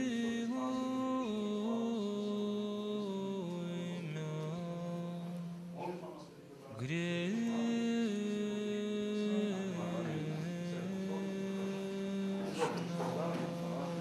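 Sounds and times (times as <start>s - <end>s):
slow sung prayer chant: 0.0s - 14.0s.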